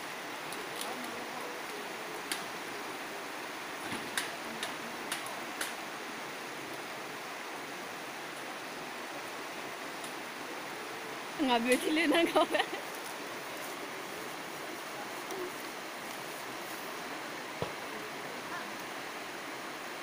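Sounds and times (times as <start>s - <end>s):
river rushing over rapids: 0.0s - 20.0s.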